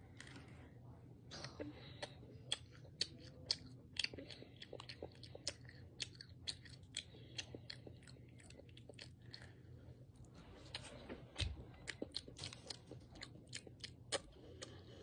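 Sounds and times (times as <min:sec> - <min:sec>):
child chewing crisp food: 0:00.0 - 0:00.7, 0:01.4 - 0:15.0.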